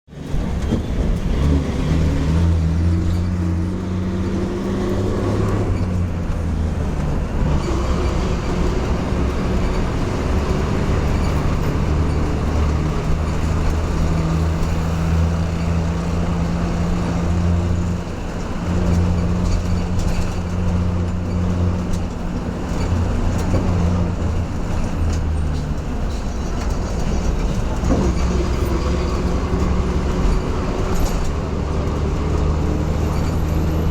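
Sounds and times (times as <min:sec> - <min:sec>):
bus engine drone: 0:00.1 - 0:33.9
road noise: 0:00.1 - 0:33.9.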